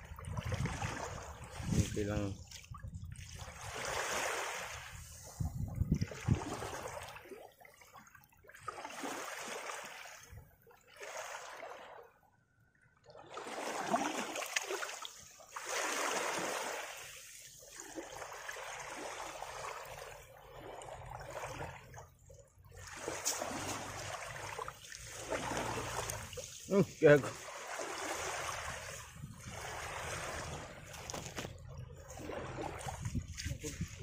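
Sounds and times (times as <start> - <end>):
small waves lapping on shore: 0.0 - 12.3, 13.0 - 34.0.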